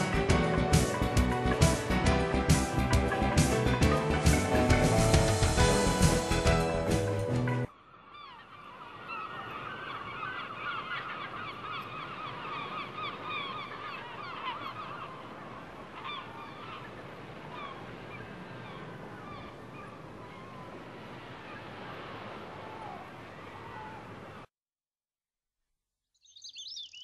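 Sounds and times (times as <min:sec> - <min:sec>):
flock of birds calling: 0:00.0 - 0:24.2.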